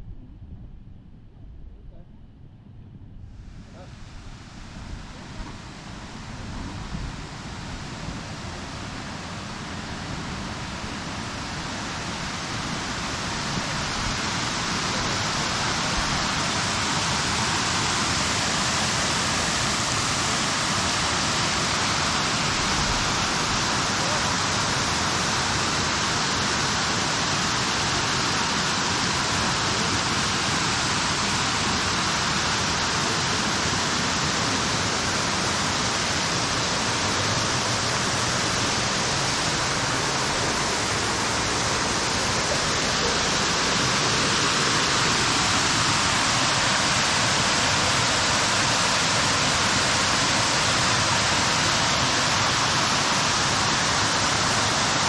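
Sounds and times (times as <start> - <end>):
waterfall rushing: 3.8 - 55.0.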